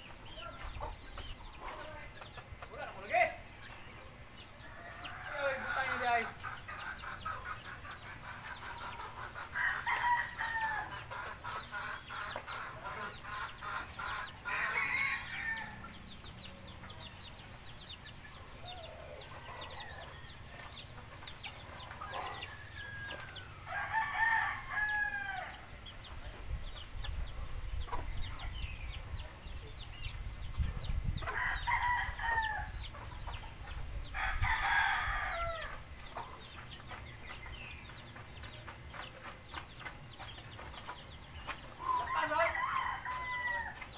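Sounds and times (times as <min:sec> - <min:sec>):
chickens clucking: 0:00.0 - 0:43.9
roosters crowing: 0:00.2 - 0:27.4, 0:31.1 - 0:43.9.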